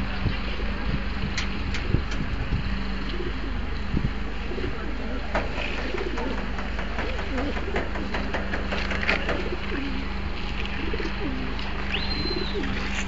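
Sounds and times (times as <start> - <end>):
steady low hum: 0.0 - 13.0
pigeons cooing: 1.8 - 13.0.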